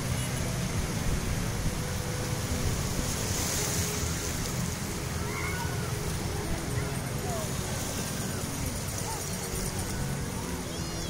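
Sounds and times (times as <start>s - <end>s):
small waves breaking: 0.0s - 11.0s.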